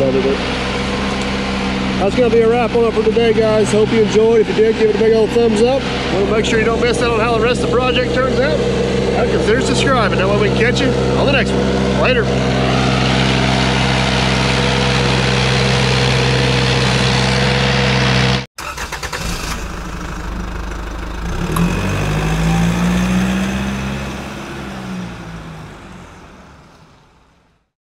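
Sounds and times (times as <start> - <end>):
engine running: 0.0 - 27.7.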